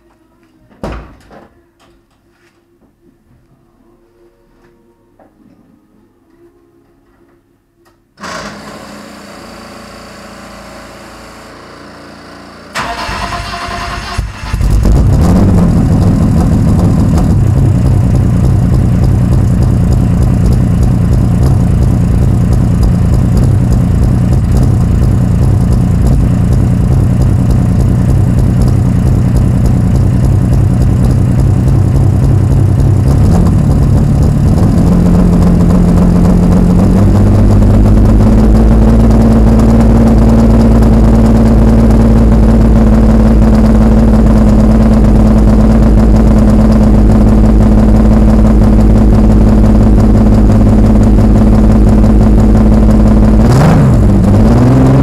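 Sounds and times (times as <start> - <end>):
car engine idling loudly: 9.4 - 55.0.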